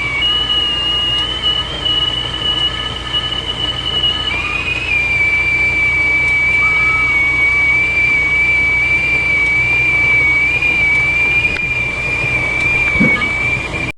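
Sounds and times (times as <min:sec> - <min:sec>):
kettle whistling: 0:00.0 - 0:13.9.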